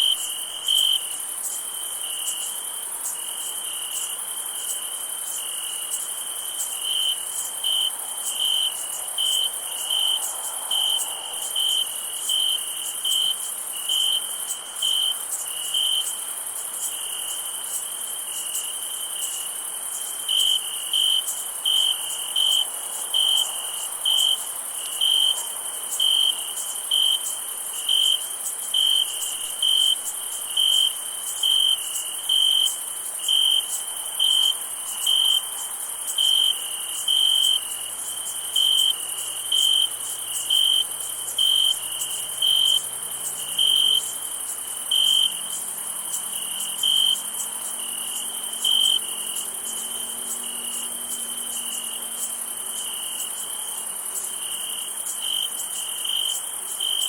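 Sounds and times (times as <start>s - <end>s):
cricket chirping: 0.0s - 57.0s
high-pitched insect trill: 0.0s - 57.0s.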